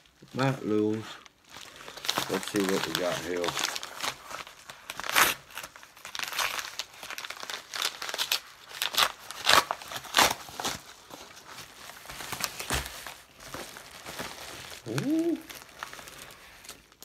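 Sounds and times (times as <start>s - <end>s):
paper mailer tearing and crinkling: 0.4s - 17.0s.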